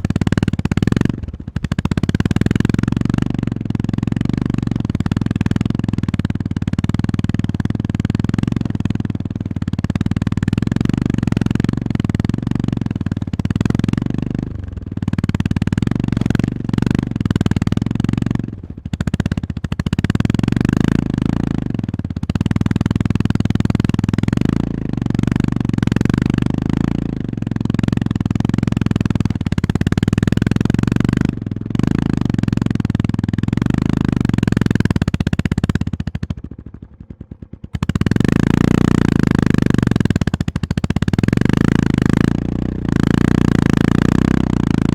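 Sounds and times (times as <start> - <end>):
motorcycle engine under load: 0.0 - 44.9.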